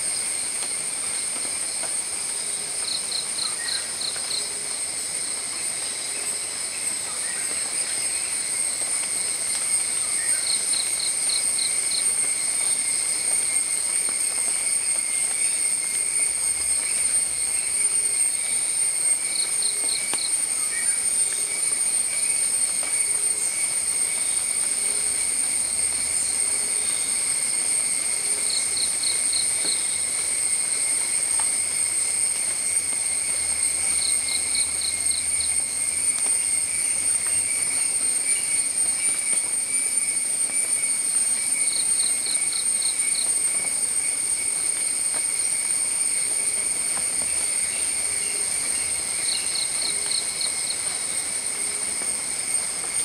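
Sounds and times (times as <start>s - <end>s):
shrill insect chorus: 0.0s - 53.0s.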